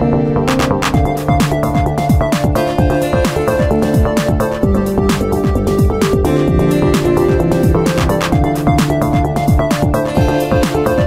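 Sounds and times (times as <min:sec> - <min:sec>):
electronic music with fast beat: 0:00.0 - 0:11.0.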